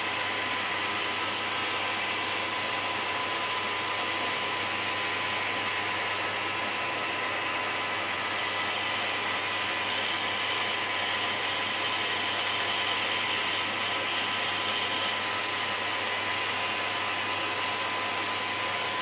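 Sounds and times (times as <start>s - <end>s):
lathe running with whine: 0.0s - 19.0s.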